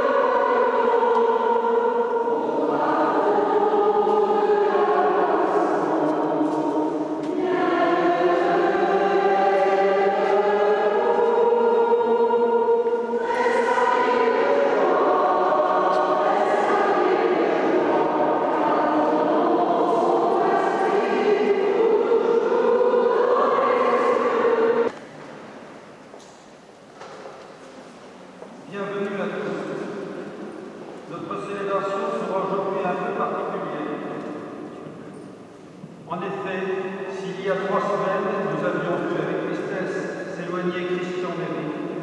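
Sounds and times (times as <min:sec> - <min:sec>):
group singing a hymn: 0:00.0 - 0:25.0, 0:28.8 - 0:42.0.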